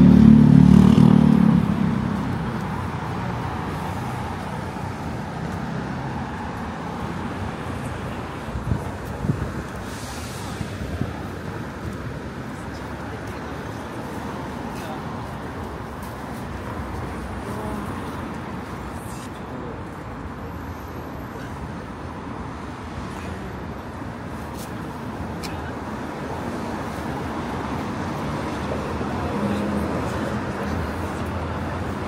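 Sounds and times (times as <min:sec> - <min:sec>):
hum of passing cars and buses: 0:00.0 - 0:32.0.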